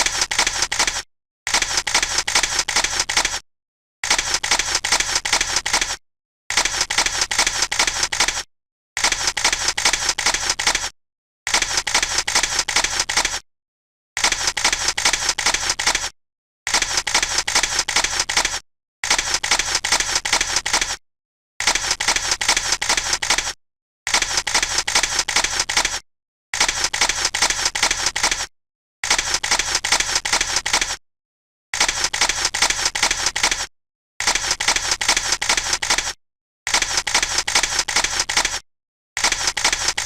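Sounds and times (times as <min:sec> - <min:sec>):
camera shutters clicking rapidly: 0:00.0 - 0:03.4, 0:04.0 - 0:10.9, 0:11.5 - 0:13.4, 0:14.2 - 0:16.1, 0:16.7 - 0:21.0, 0:21.6 - 0:26.0, 0:26.6 - 0:31.0, 0:31.8 - 0:38.6, 0:39.2 - 0:40.0.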